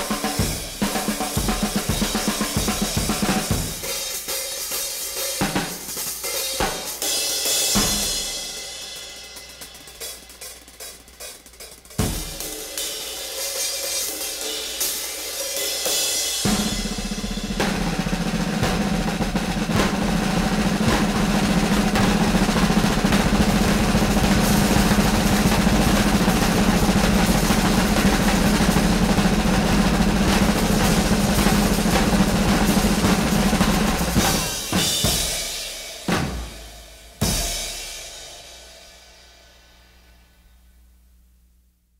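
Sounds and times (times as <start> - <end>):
music with busy drum kit: 0.0 - 39.6.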